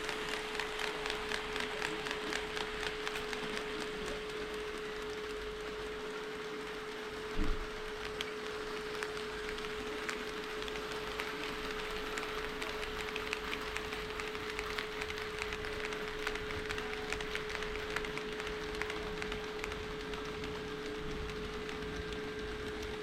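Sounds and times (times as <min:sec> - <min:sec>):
model train wheels ticking: 0:00.0 - 0:23.0.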